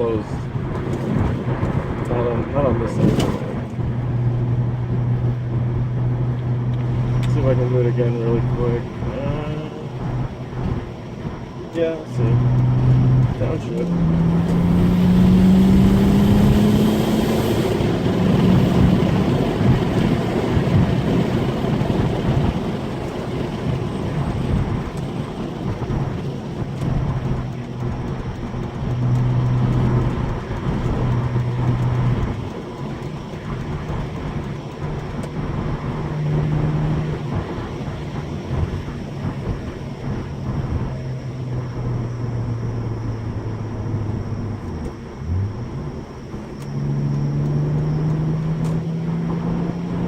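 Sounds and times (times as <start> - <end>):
road and wind noise: 0.0 - 50.0
turbocharged car engine accelerating: 0.0 - 50.0.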